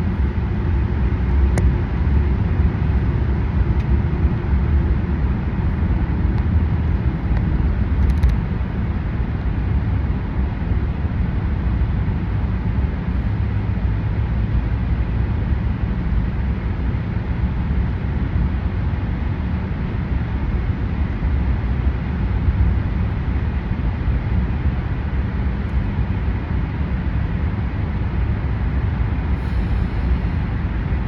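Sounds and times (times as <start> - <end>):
car driving through tunnel: 0.0 - 31.0.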